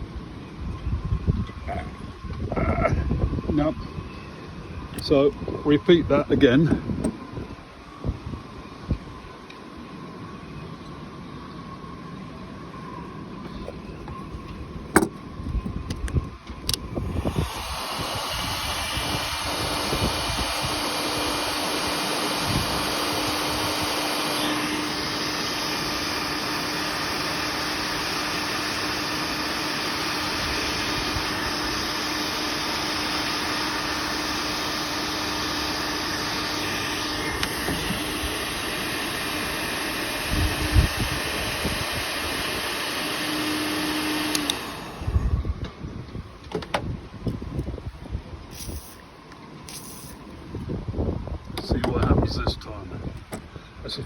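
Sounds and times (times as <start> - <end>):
heat gun fan rushing: 2.3 - 10.2, 12.6 - 54.0.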